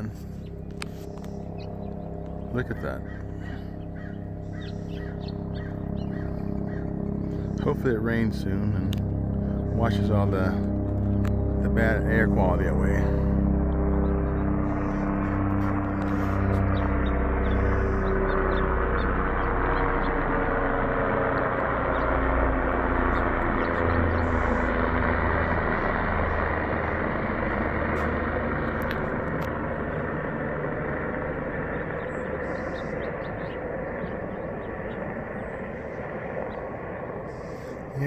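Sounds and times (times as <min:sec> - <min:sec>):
low hum: 0:00.0 - 0:38.0
vehicles rumbling: 0:00.0 - 0:38.0.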